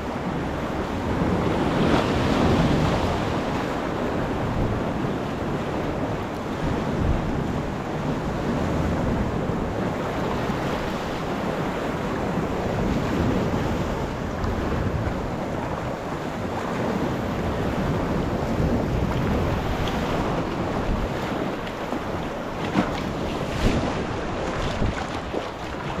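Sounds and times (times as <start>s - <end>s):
water washing around kayak: 0.0s - 26.0s
wind buffeting microphone: 0.0s - 26.0s.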